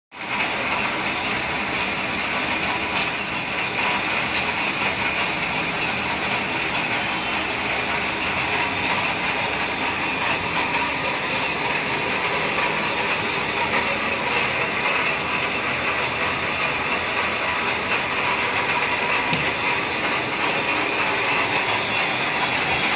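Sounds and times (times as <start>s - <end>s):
metal lathe whirring and rattling: 0.2s - 22.9s.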